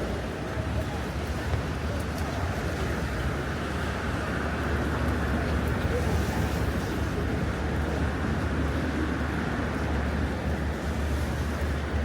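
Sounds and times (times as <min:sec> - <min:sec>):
rainy city street ambience: 0:00.0 - 0:12.0.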